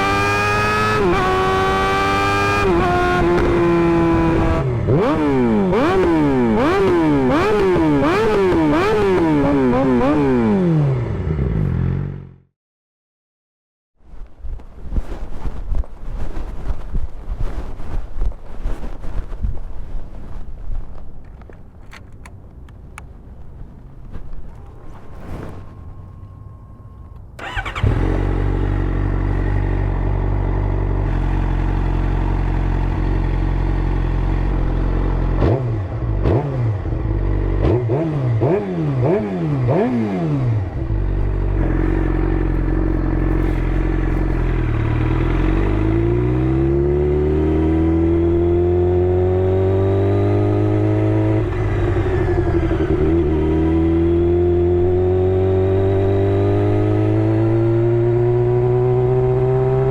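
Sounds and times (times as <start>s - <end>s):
motorcycle engine idling and revving: 0.0s - 12.5s, 24.1s - 59.9s.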